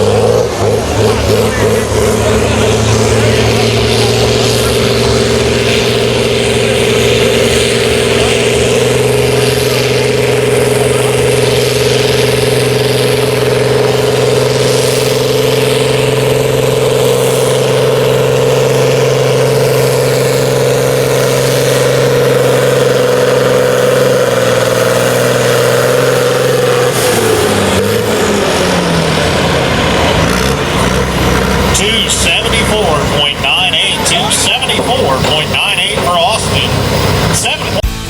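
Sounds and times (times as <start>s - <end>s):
diesel tractor engine under load: 0.0s - 38.0s.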